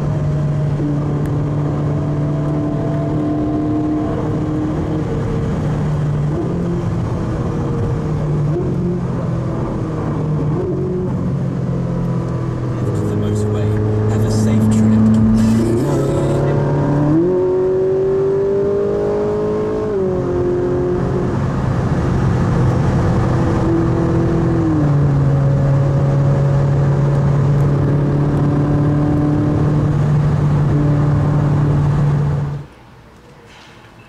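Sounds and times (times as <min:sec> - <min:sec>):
car engine while driving: 0:00.0 - 0:32.8.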